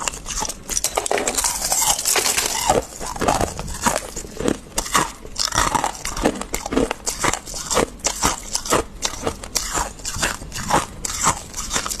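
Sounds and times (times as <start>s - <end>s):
frost being chewed crunching: 0.0s - 12.0s.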